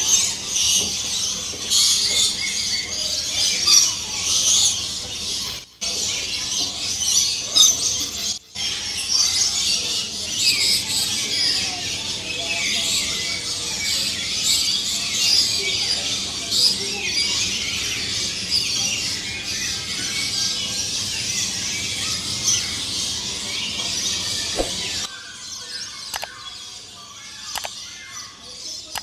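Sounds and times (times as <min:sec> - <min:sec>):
parrots chattering and screeching: 0:00.0 - 0:29.0.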